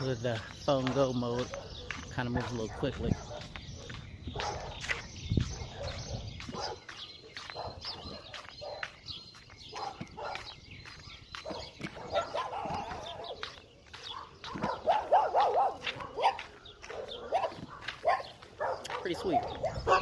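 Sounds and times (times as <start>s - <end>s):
dogs barking: 0.0s - 20.0s.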